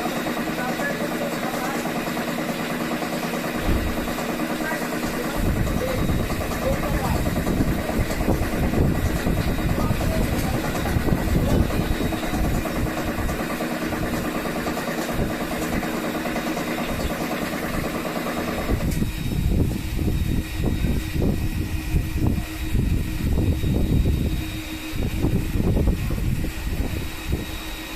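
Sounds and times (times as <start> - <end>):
wall fan running loudly: 0.0 - 27.9
air buffeting microphone: 3.5 - 27.9.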